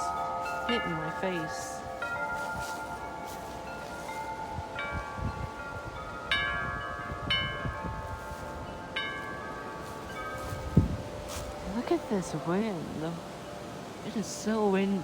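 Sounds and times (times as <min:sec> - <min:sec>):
metal wind chimes ringing: 0:00.0 - 0:15.0
wind buffeting microphone: 0:00.0 - 0:15.0.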